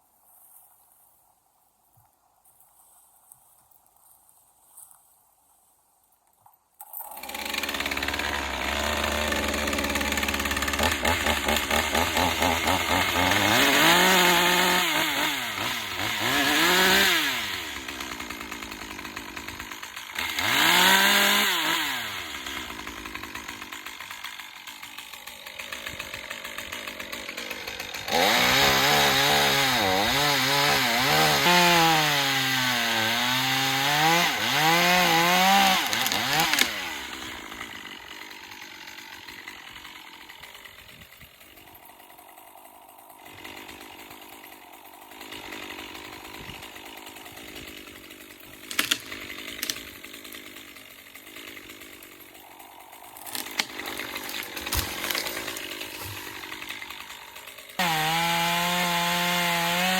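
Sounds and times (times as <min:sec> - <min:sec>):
pole saw cutting branches: 0:06.8 - 0:59.9.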